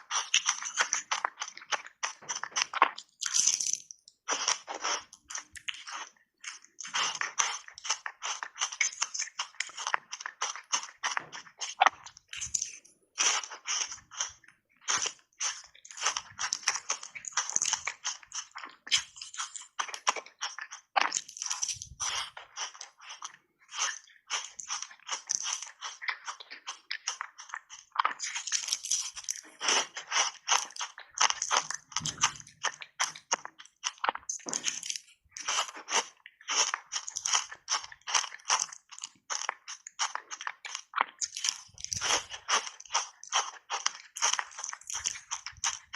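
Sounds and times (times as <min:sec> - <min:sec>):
ice being crunched and chewed: 0:00.0 - 0:45.9.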